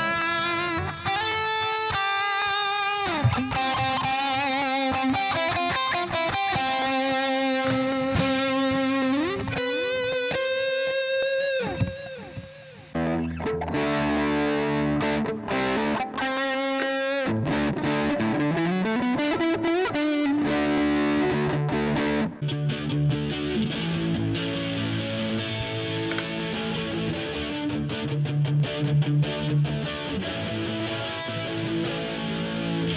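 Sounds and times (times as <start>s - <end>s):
overdriven electric guitar lead: 0.0s - 32.9s
strummed electric guitar chords: 0.0s - 32.9s.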